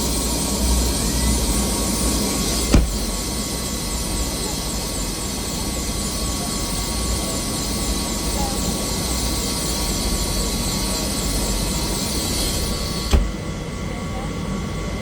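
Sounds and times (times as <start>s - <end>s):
helicopter turbine whine: 0.0s - 15.0s.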